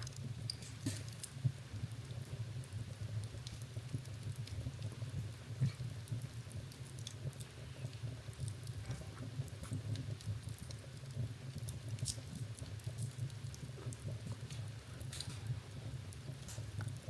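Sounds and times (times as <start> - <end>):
rumble of flames: 0.0 - 17.0
wood fire crackling: 0.0 - 17.0.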